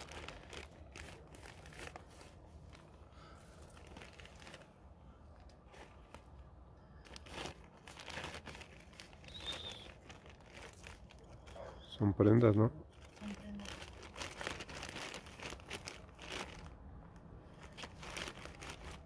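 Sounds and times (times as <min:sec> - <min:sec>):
bag rustling and crinkling: 0:00.0 - 0:12.0, 0:12.9 - 0:16.8, 0:17.5 - 0:19.0.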